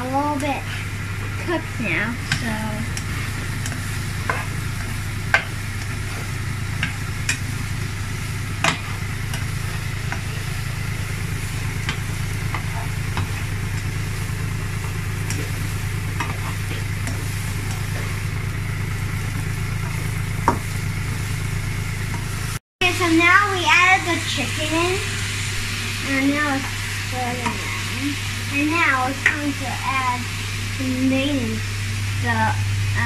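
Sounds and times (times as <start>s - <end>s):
steady low hum: 0.0s - 33.0s
vegetables sizzling in oil: 0.0s - 33.0s.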